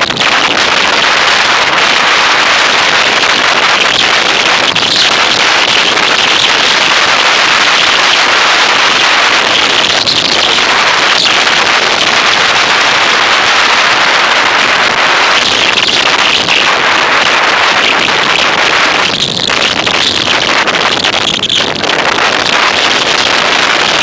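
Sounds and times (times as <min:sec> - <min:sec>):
wind and road vibration rushing: 0:00.0 - 0:24.0.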